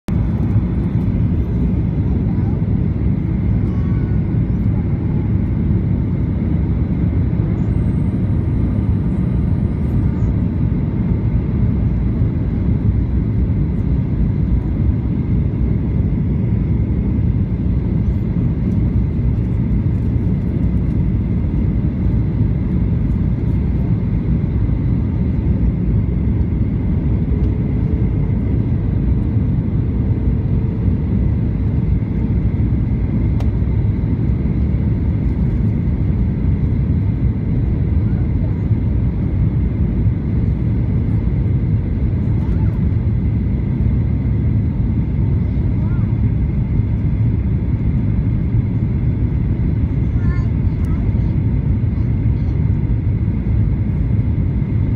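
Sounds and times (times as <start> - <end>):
airplane cabin engine noise: 0.1 - 54.9.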